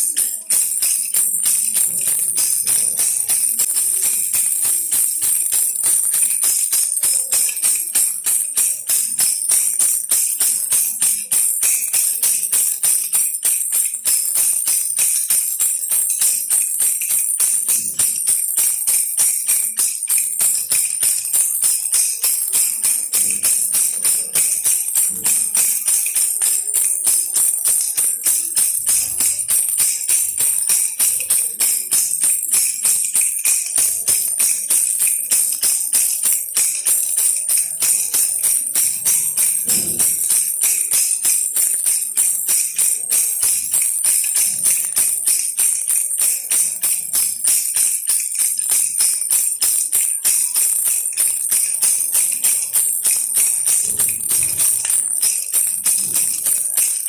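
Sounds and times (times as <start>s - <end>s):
baby rattle shaken: 0.0s - 57.0s.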